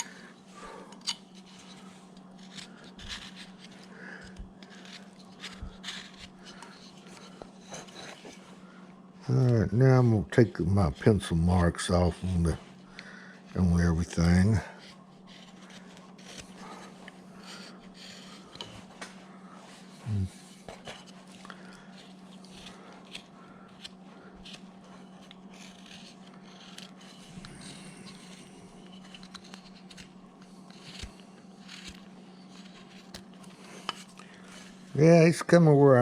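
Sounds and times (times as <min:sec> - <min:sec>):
steady low hum: 0:00.0 - 0:36.0
blade scraping wood: 0:00.1 - 0:08.4, 0:09.3 - 0:19.2, 0:19.8 - 0:35.2.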